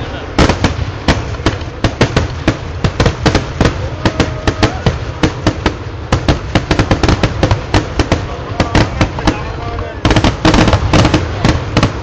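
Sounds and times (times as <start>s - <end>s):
firecracker bangs: 0.0s - 12.0s.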